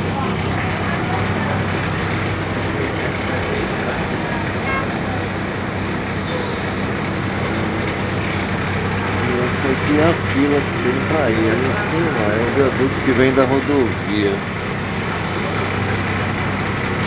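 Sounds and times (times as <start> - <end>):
bus engine drone: 0.0 - 17.0
road noise: 0.0 - 17.0.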